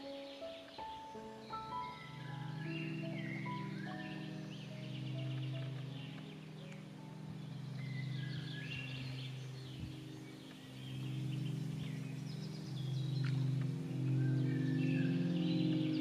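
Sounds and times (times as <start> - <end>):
small birds chirping: 0.0 - 16.0
soft background music: 0.0 - 16.0.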